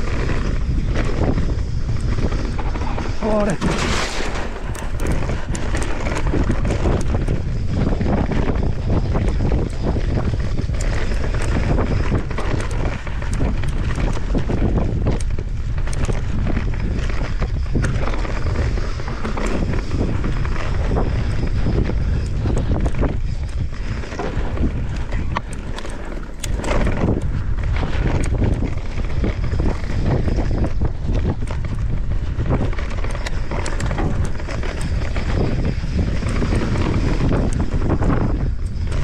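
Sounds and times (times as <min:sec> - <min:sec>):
bike clicks and rattles: 0:00.0 - 0:39.0
bike tyre rumble on dirt: 0:00.0 - 0:39.0
wind buffeting the microphone: 0:00.0 - 0:39.0.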